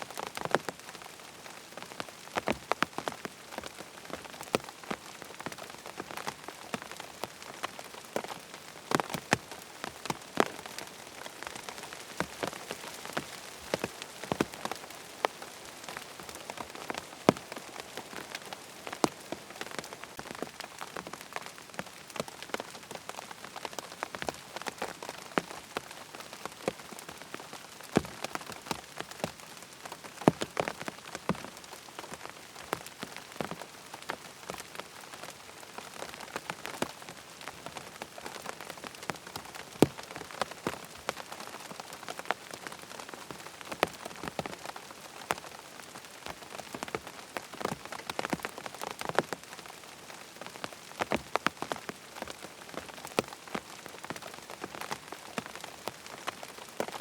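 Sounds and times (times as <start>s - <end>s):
rain hissing: 0.0s - 55.9s.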